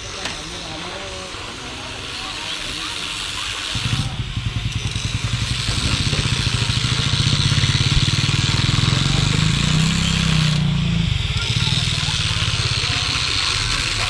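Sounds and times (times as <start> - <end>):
tracked farm machine engine: 0.0 - 14.0.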